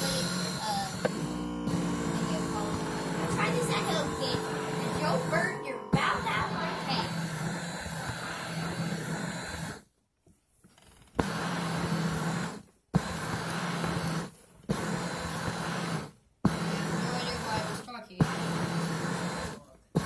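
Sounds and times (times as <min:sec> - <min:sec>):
massager motor hum and whir: 0:00.0 - 0:09.9, 0:10.7 - 0:20.0.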